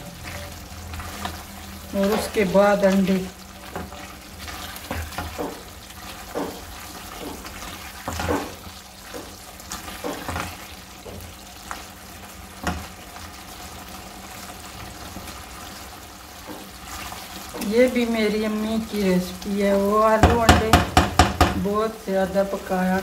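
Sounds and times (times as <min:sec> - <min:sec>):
sauce bubbling: 0:00.0 - 0:21.5.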